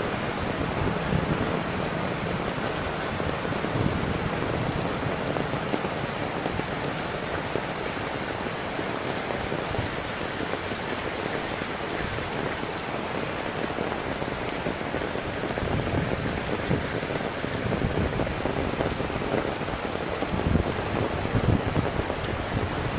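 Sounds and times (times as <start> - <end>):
heavy rain hiss: 0.0 - 22.9.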